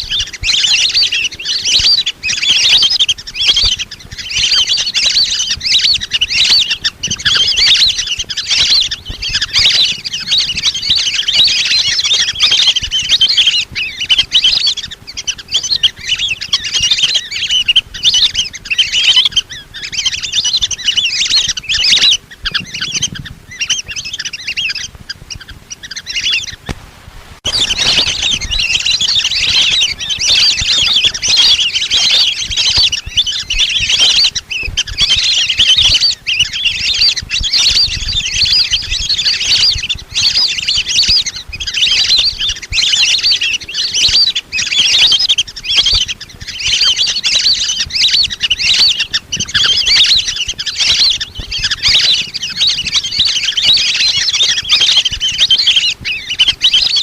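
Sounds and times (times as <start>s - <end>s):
whistling ducks calling: 0.0s - 26.8s, 27.4s - 57.0s.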